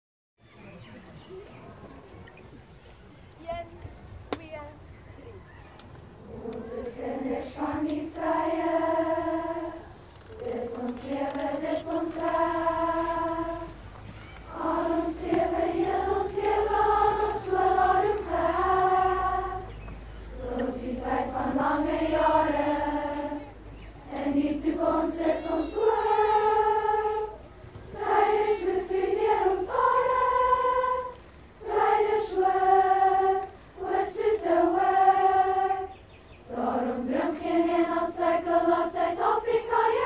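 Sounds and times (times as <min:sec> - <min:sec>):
girls choir singing in unison: 0:06.2 - 0:40.0.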